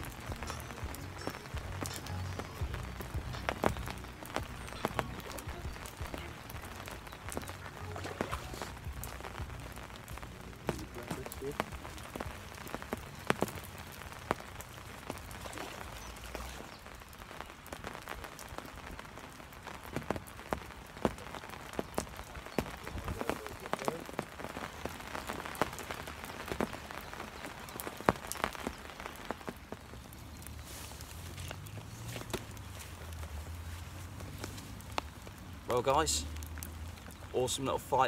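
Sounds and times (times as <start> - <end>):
rain falling: 0.0 - 38.0
raindrops ticking near microphone: 0.0 - 38.0.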